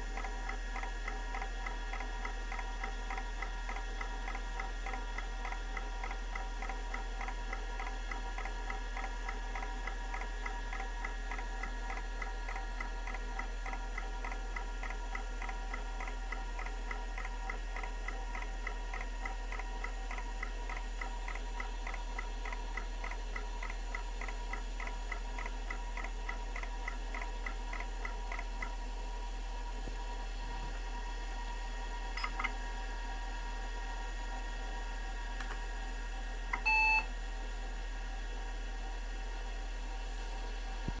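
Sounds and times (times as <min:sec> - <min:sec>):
hard drive hum: 0:00.0 - 0:37.2.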